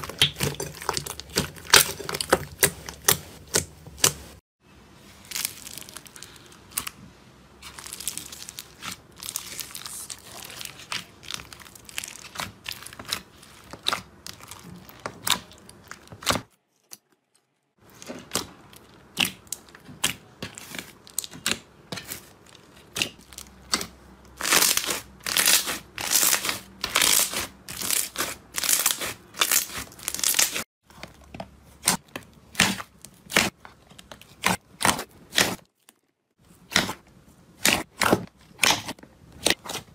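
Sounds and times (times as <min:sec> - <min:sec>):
slime squishing with crackles: 0:00.0 - 0:04.4, 0:05.0 - 0:39.9.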